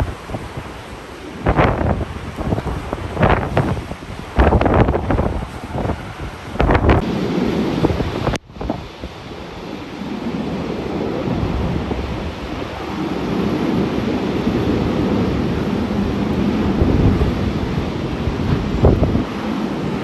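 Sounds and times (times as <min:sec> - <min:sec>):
heavy rain hissing: 0:00.0 - 0:20.0
wind buffeting microphone: 0:00.0 - 0:20.0.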